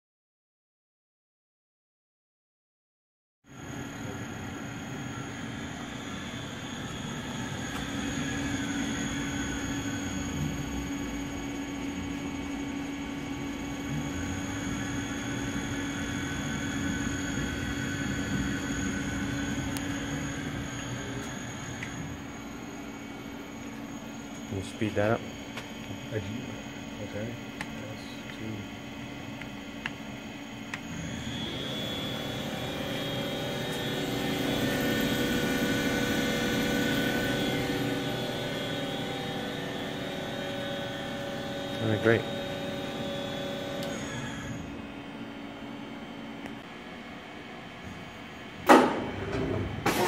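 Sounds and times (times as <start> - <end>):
high whine: 3.5 - 46.8
machine mechanical hum: 3.5 - 50.0.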